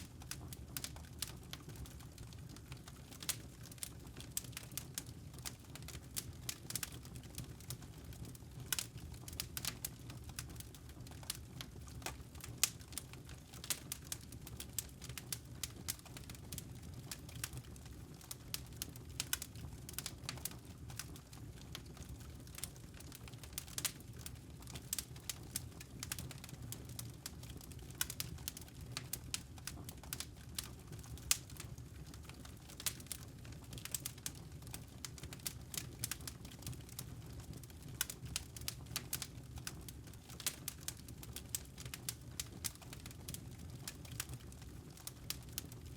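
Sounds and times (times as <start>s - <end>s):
campfire crackling: 0.0s - 45.9s
low rumble of flames: 0.0s - 45.9s.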